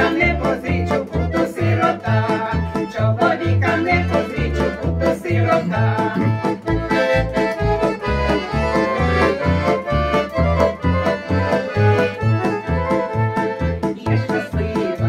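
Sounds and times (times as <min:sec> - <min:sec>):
accordion playing folk melody: 0:00.0 - 0:15.0.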